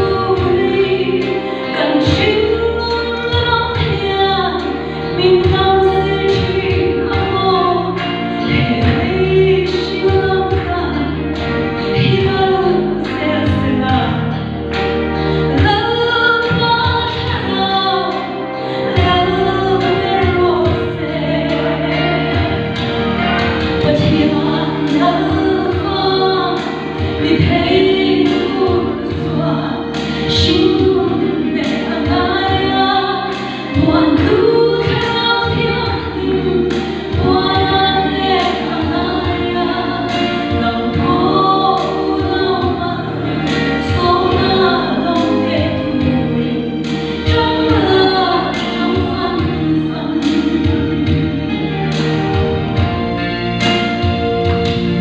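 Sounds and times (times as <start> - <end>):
instrumental accompaniment with beat: 0.0 - 55.0
woman singing into a microphone: 0.0 - 55.0.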